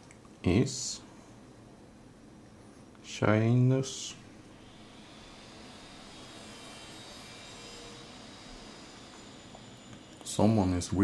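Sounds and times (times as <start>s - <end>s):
faint drone of building work: 0.0s - 11.0s.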